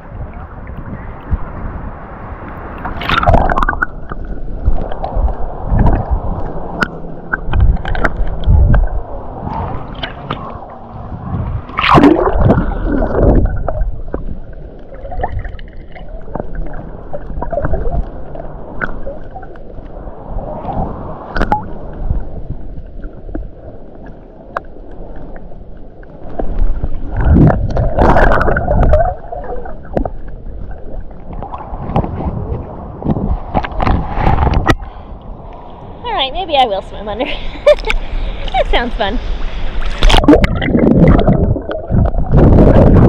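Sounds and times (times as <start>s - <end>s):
water sloshing and gurgling: 0.0s - 43.0s
water splashing: 2.5s - 35.1s, 36.2s - 43.0s.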